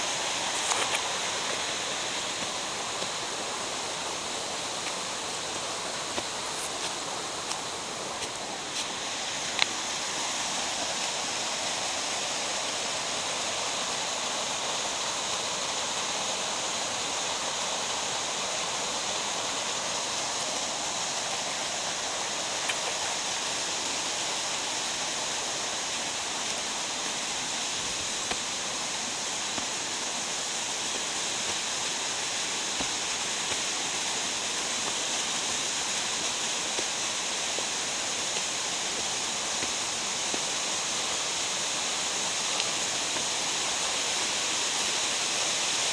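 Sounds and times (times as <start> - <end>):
water rushing over rocks: 0.0 - 45.9.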